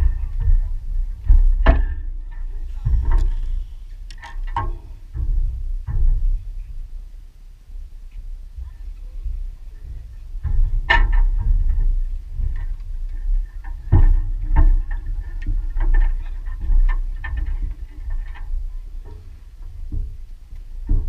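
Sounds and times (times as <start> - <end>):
wooden planks knocking and clattering: 0.0 - 6.9, 8.2 - 21.0
steady low rumble: 0.0 - 21.0.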